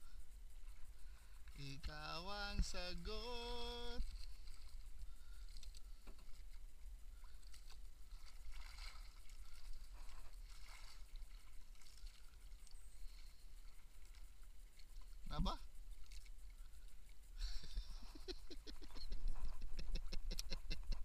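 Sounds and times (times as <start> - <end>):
water lapping against boat hull: 0.6 - 21.0.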